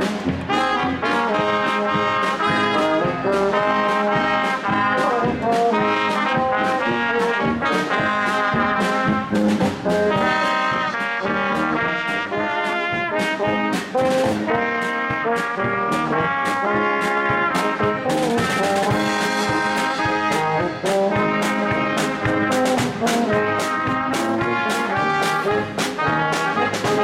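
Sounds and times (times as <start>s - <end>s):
polka band playing: 0.0s - 27.0s
steady drum beat: 0.0s - 27.0s.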